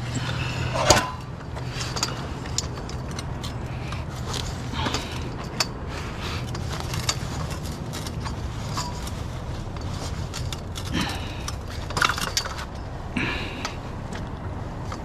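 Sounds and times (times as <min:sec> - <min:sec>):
scrap metal clinking: 0:00.0 - 0:15.0
steady low hum: 0:00.0 - 0:15.0.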